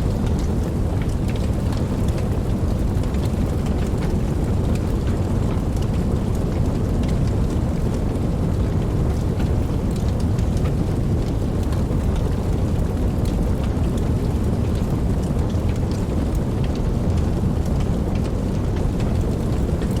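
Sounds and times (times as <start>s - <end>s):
raindrop ticks: 0.0s - 20.0s
steady rain: 0.0s - 20.0s.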